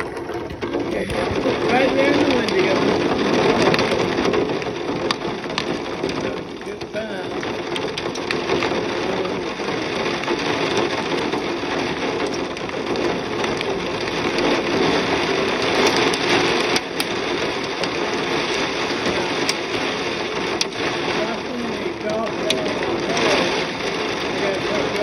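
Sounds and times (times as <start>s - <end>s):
rain on a metal roof: 0.0s - 25.0s.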